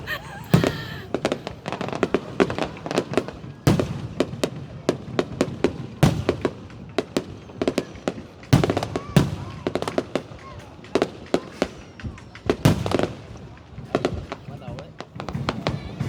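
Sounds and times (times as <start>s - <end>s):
fireworks bangs and pops: 0.0s - 16.0s
fireworks booms: 0.0s - 16.0s.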